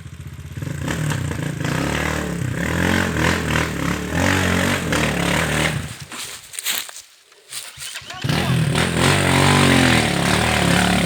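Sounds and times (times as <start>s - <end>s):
small tractor engine running hard: 0.0s - 6.0s, 7.7s - 11.0s.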